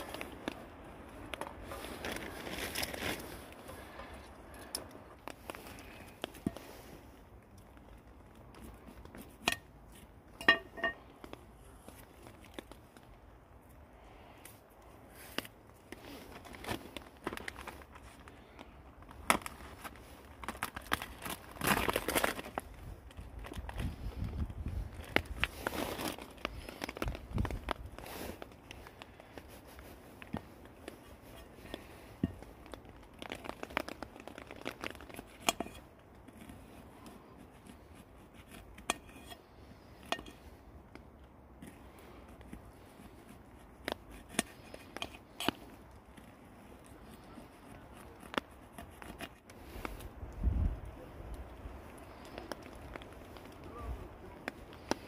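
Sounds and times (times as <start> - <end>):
plastic packaging crinkling: 0.0 - 10.1, 11.0 - 13.6, 15.1 - 50.3, 51.2 - 55.0
onion skin rustling and crackling: 0.0 - 55.0.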